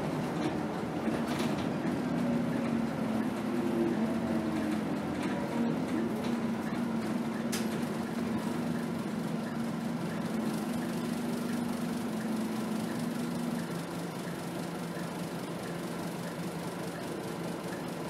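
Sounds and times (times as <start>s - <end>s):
bus engine humming: 0.0s - 18.0s.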